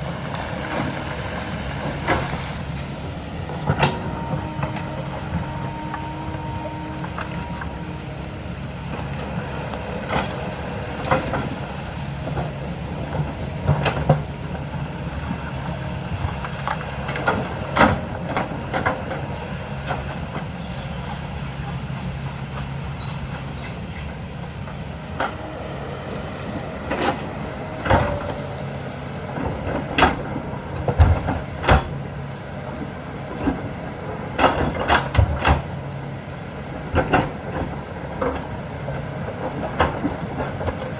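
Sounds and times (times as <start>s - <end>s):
digging machine engine running: 0.0s - 40.9s.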